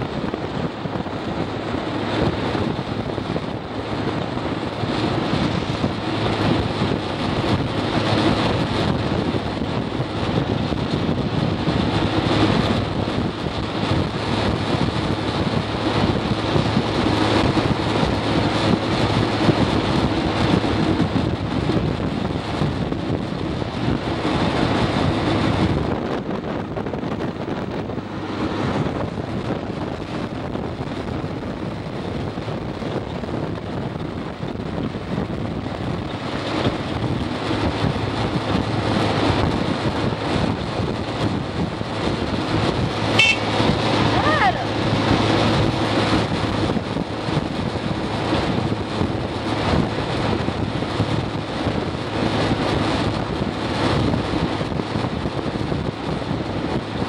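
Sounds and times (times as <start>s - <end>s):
steady road noise: 0.0s - 57.0s
wind buffeting microphone: 0.0s - 57.0s.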